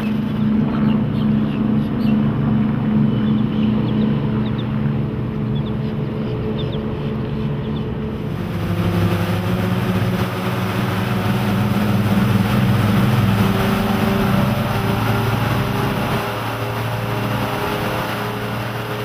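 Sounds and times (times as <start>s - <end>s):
boat engines droning: 0.0s - 19.0s
wind and water rushing: 0.0s - 19.0s.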